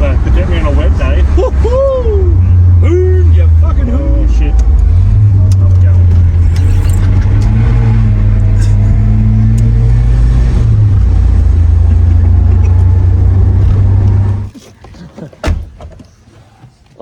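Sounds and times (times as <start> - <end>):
car engine driven hard: 0.0 - 14.6.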